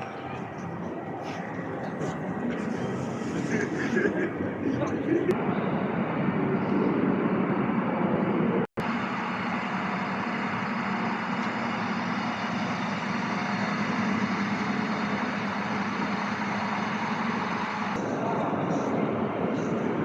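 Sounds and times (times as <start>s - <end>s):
dense wash of station noise: 0.0s - 20.0s.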